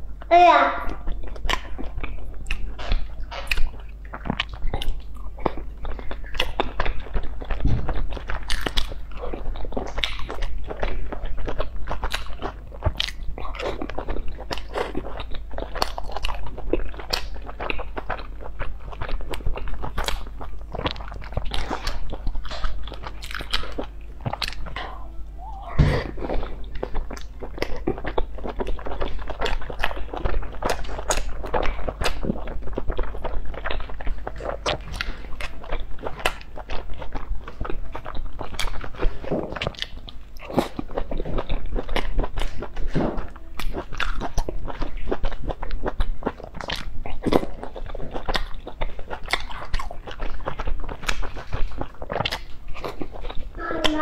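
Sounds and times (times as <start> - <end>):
chewing with crunchy bites: 0.0 - 54.0
low steady hum: 0.0 - 54.0.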